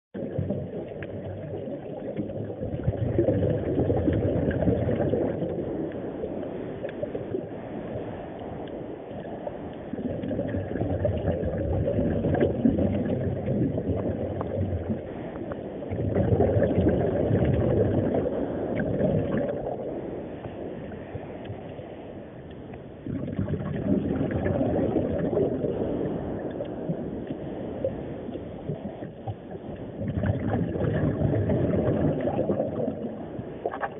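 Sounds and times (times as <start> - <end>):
muffled underwater rush of water: 0.2 - 33.9.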